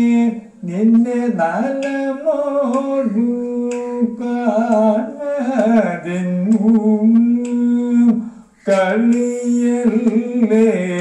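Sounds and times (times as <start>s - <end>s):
man singing solo: 0.0s - 11.0s.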